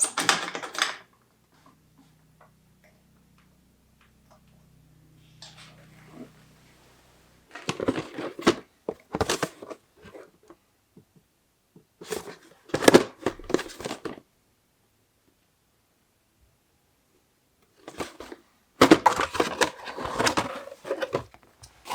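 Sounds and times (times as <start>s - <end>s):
faint low hum: 1.1s - 21.9s.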